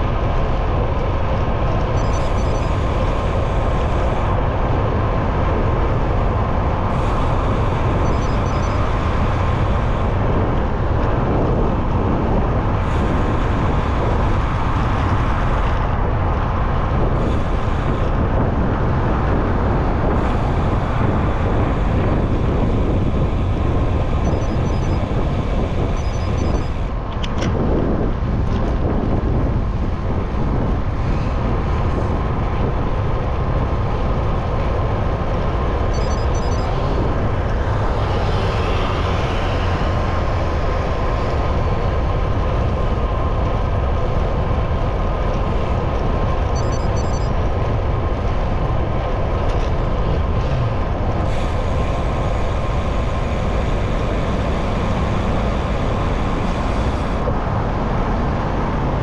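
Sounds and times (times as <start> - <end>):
city street traffic: 0.0 - 59.0
wind rushing over microphone: 0.0 - 59.0.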